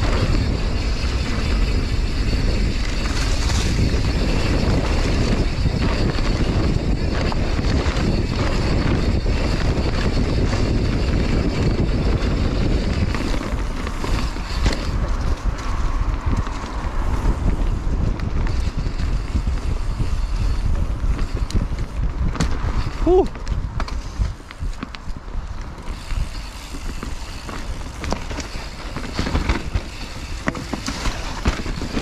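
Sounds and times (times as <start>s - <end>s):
bike knocks and rattles: 0.0s - 32.0s
bike tyre noise: 0.0s - 32.0s
wind rushing on microphone: 0.0s - 32.0s.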